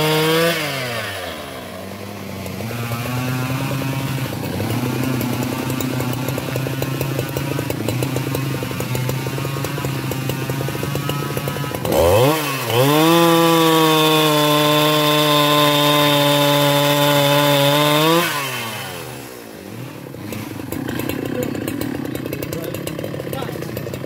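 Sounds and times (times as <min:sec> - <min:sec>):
chainsaw cutting log: 0:00.0 - 0:24.0.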